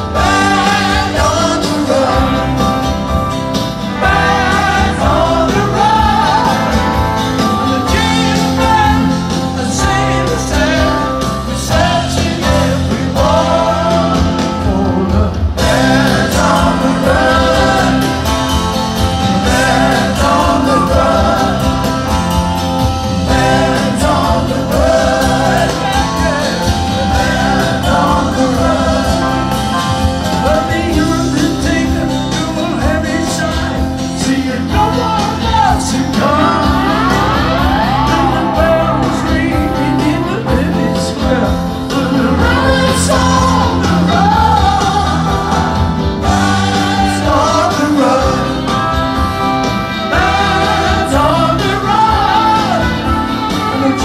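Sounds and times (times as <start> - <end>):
man singing: 0.0 - 3.2, 4.0 - 18.8, 19.4 - 22.2, 23.2 - 49.1, 50.0 - 54.0
concert crowd: 0.0 - 54.0
live rock band: 0.0 - 54.0.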